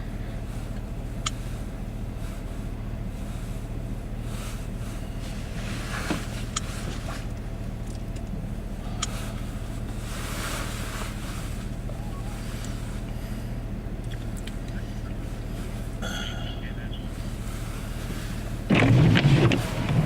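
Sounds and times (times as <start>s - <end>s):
truck engine humming: 0.0s - 20.0s.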